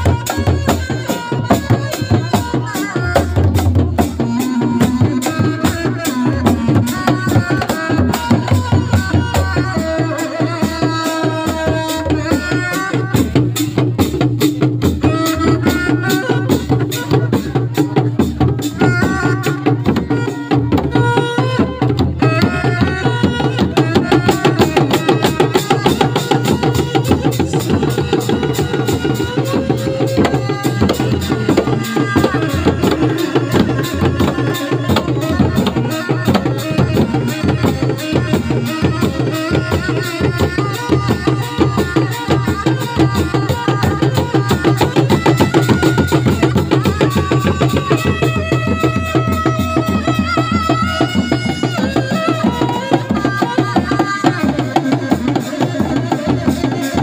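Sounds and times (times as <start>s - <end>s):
hand drums fast rhythm: 0.0s - 57.0s.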